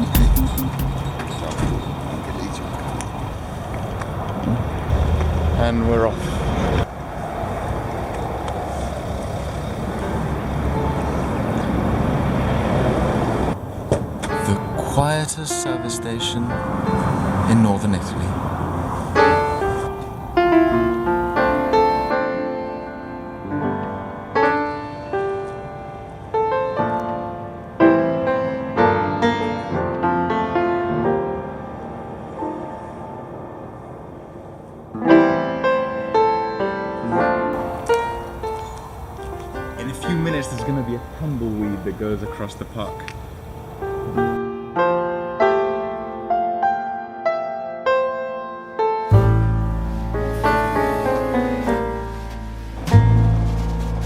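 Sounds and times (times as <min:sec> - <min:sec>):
gentle piano piece: 0:09.4 - 0:54.0.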